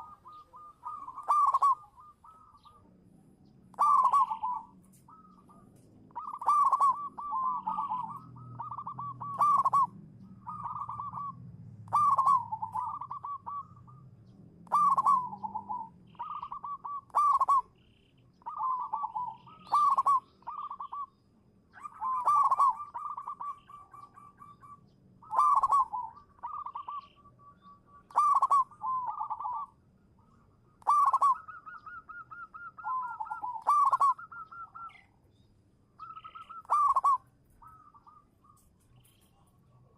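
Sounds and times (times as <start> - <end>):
dove cooing: 0.0 - 35.2, 36.0 - 39.9.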